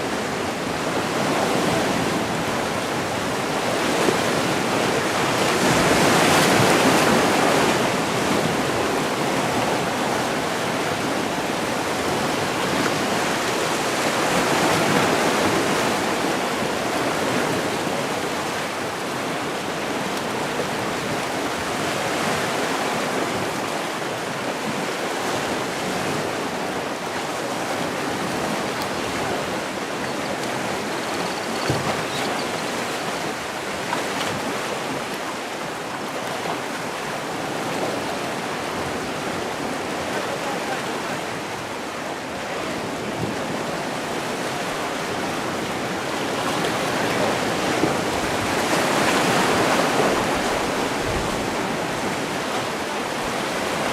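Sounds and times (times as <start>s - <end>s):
sea waves washing: 0.0s - 53.9s.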